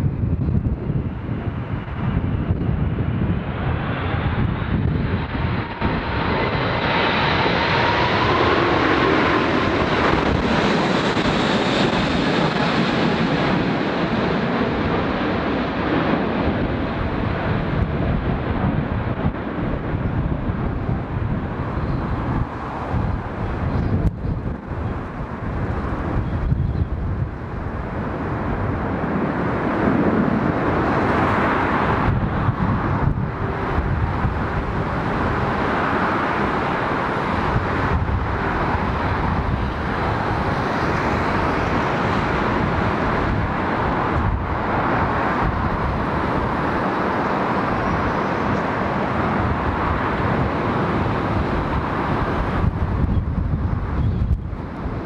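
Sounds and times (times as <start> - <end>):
jet engines roaring overhead: 0.0 - 55.0
wind buffeting microphone: 0.0 - 55.0.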